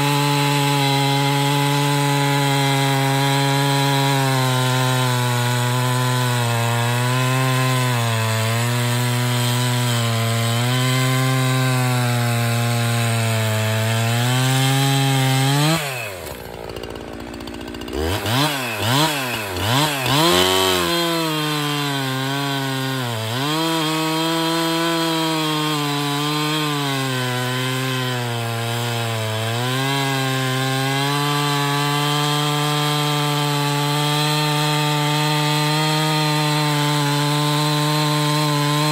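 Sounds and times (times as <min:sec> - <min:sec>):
chainsaw cutting log: 0:00.0 - 0:38.9
chainsaw idling with throttle blips: 0:00.0 - 0:38.9.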